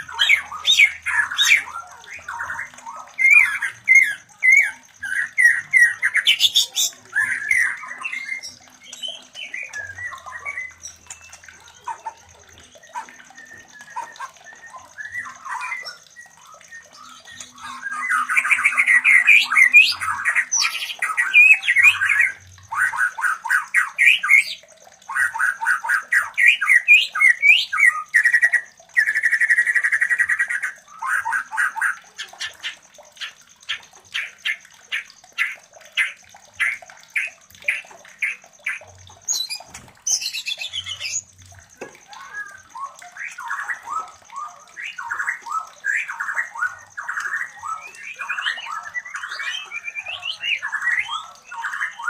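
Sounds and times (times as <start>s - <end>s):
birds chattering and chirping: 0.0s - 52.0s
sharp bird ticks: 0.0s - 52.0s.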